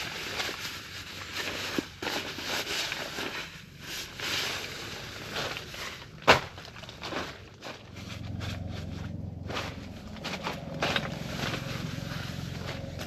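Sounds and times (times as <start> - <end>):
camping gear rustling: 0.0 - 13.0.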